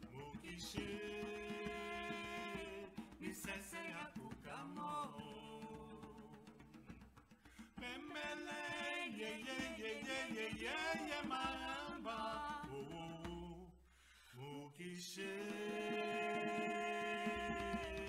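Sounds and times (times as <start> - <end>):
woman and man singing unaccompanied: 0.0 - 7.0, 7.6 - 18.0.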